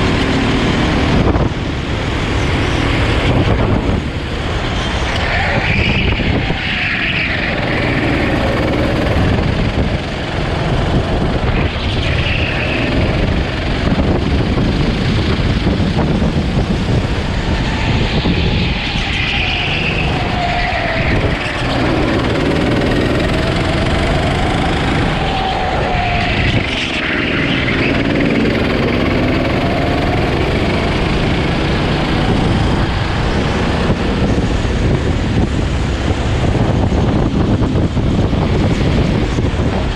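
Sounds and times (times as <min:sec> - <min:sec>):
go-kart engine revving: 0:00.0 - 0:39.9
wind noise on microphone: 0:00.0 - 0:39.9.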